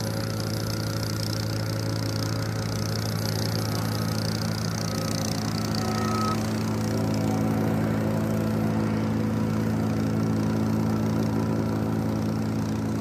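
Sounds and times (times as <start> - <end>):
plate compactor engine running: 0.0 - 13.0.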